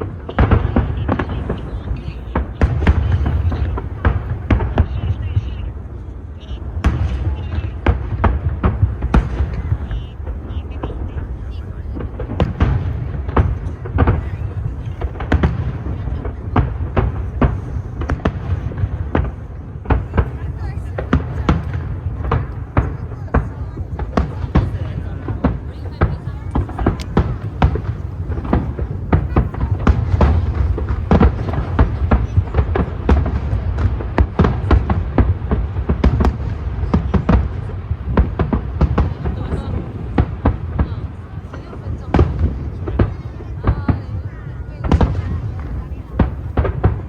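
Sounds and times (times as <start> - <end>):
continuous low rumble: 0.0 - 47.0
fireworks bangs: 0.0 - 47.0.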